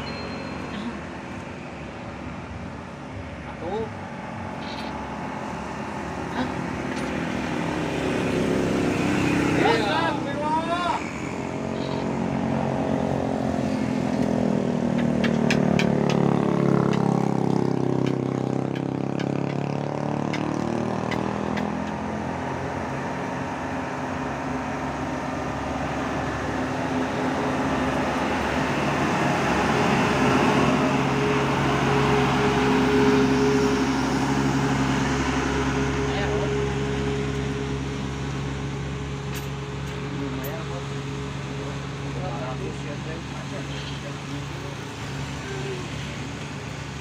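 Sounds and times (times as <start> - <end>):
truck diesel engines droning: 0.0 - 47.0.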